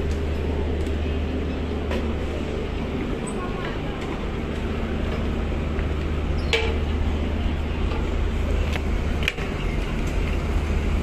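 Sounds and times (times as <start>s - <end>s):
ship engines droning: 0.0s - 11.0s.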